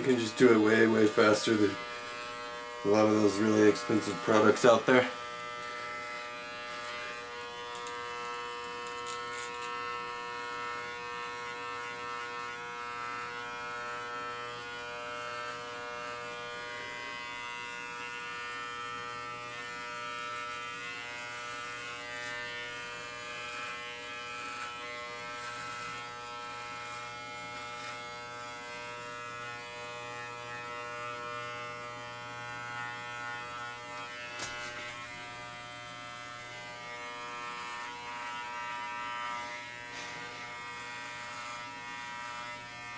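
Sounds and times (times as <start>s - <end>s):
electric clippers buzzing: 0.0s - 42.9s.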